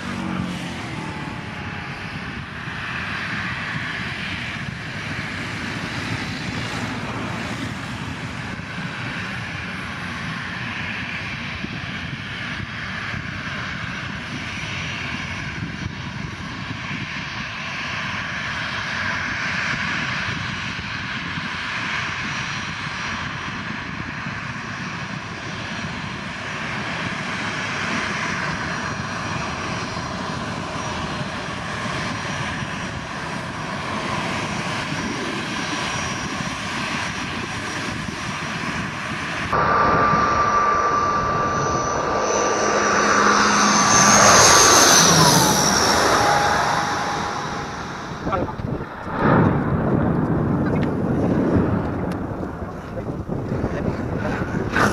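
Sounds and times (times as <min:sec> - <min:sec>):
jet engines whining: 0:00.0 - 0:15.9, 0:26.6 - 0:54.9
turboprop propeller drone: 0:00.0 - 0:54.9.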